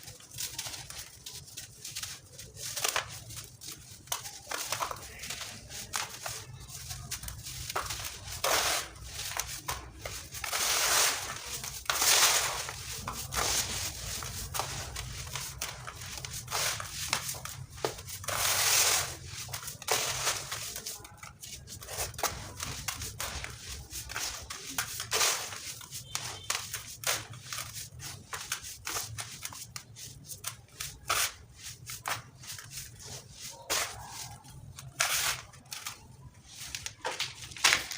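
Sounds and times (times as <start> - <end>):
dry cement chunks crunching: 0.0 - 37.9.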